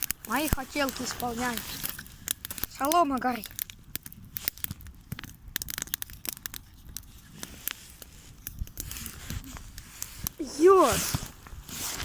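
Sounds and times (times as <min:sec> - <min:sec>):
straw fire crackling: 0:00.0 - 0:12.0.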